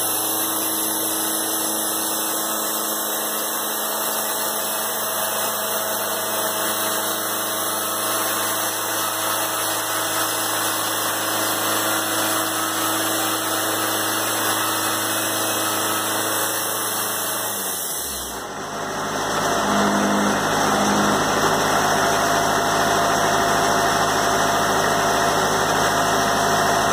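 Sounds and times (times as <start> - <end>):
band sawmill running: 0.0 - 26.9.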